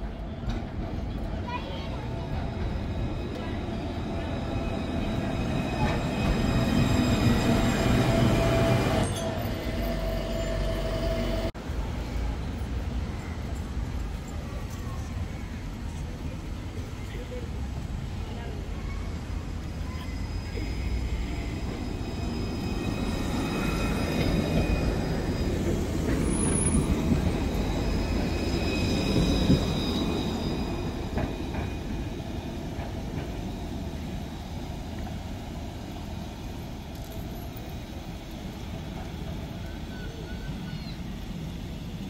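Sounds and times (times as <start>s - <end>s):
tram wheels rumbling on rails: 0.0s - 42.0s.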